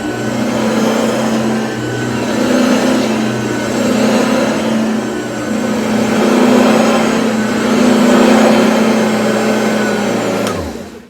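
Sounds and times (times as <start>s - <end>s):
vacuum cleaner motor hum: 0.0s - 11.0s.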